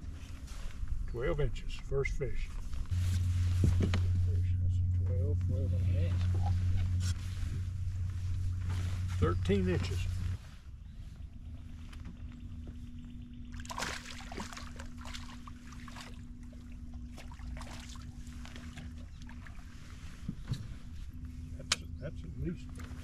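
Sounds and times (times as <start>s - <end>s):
trolling motor humming: 0.0s - 23.0s.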